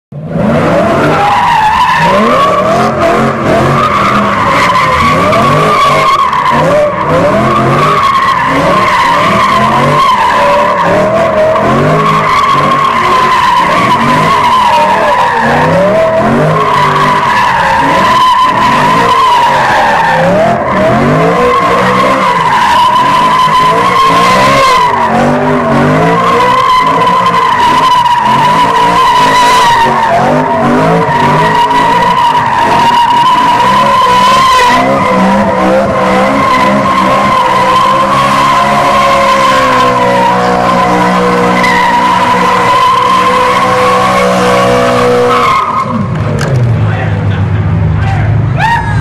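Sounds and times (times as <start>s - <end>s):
car engine revving: 0.1s - 48.7s
tyres squealing: 0.8s - 46.2s.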